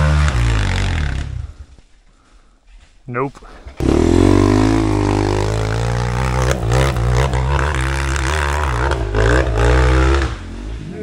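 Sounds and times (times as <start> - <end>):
dirt bike engine revving: 0.0 - 1.6, 3.6 - 11.0.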